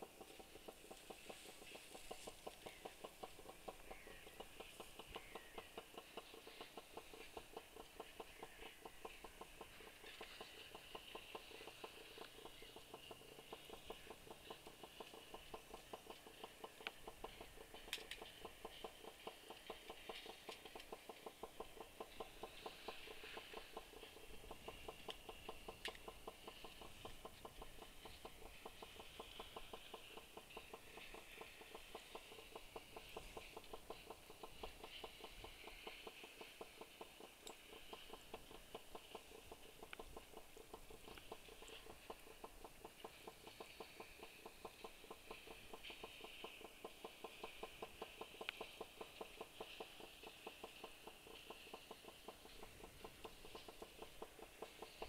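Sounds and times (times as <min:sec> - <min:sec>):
faint rapid ticking: 0:00.0 - 0:55.0.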